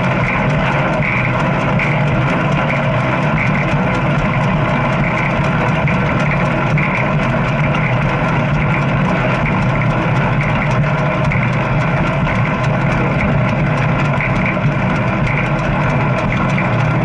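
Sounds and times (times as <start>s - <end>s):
bike running hum: 0.0s - 17.0s.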